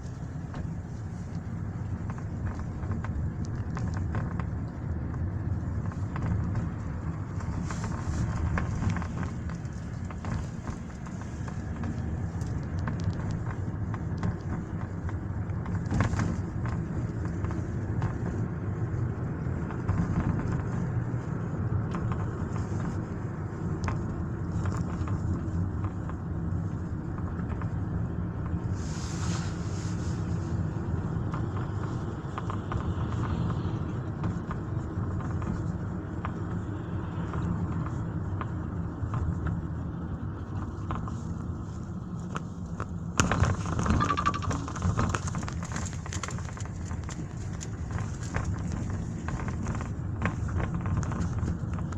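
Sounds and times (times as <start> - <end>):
moving car rumble: 0.0 - 51.9.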